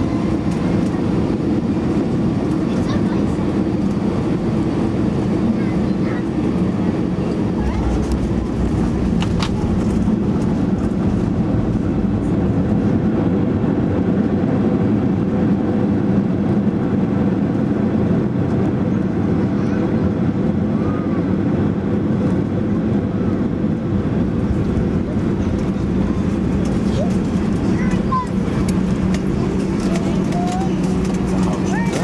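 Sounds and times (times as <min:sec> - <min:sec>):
airliner engines rumbling in cabin: 0:00.0 - 0:32.0.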